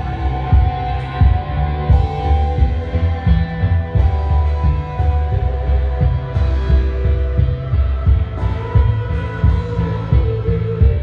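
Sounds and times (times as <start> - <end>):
held synth notes: 0.0 - 11.0
thudding bass beat: 0.0 - 11.0.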